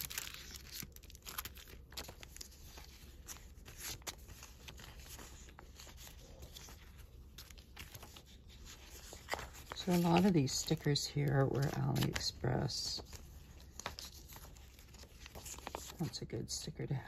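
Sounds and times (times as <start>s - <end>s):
paper and plastic rustling: 0.0s - 17.0s.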